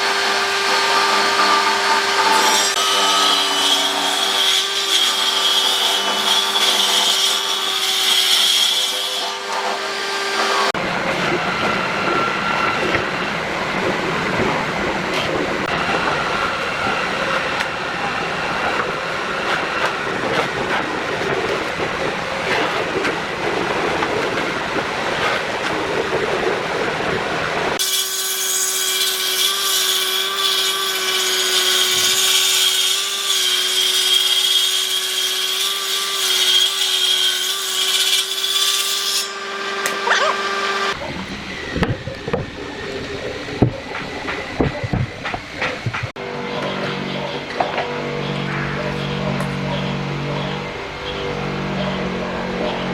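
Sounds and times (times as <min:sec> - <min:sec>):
power tool grinding wood: 0:00.0 - 0:52.9.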